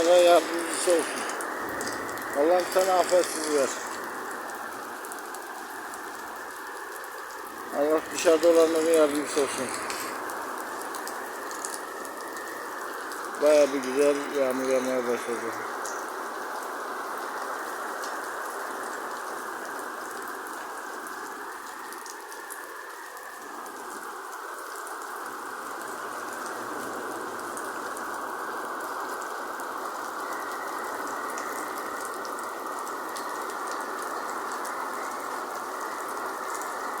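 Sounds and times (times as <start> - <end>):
heavy rain hissing: 0.0 - 21.9, 25.4 - 37.0.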